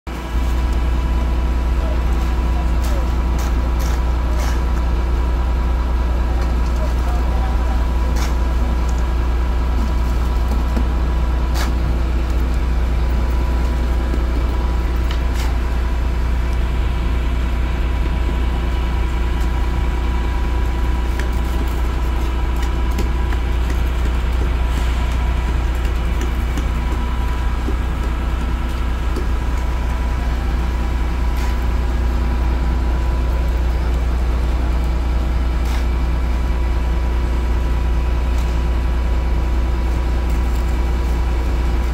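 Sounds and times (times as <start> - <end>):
engine idling: 0.1 - 41.9.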